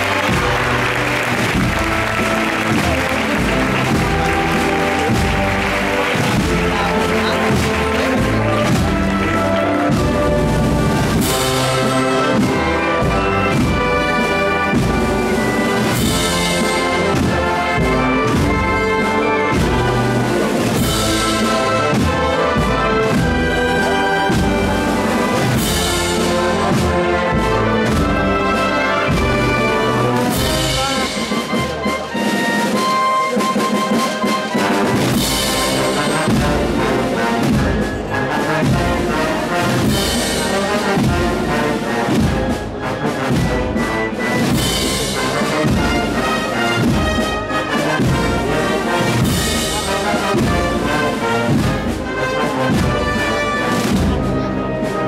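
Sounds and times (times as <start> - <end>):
percussion crashes: 0.0 - 32.0, 32.8 - 54.5
brass band playing a march: 0.0 - 55.0.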